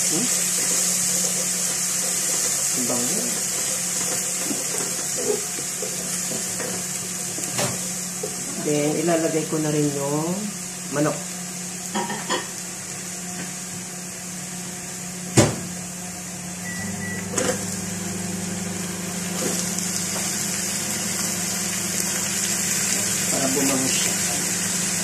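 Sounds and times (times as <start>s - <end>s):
garlic sizzling in hot oil: 0.0s - 25.0s.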